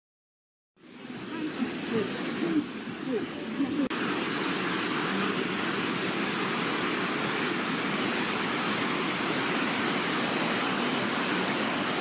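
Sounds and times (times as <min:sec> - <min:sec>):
river rushing through rocky gorge: 0:00.8 - 0:12.0.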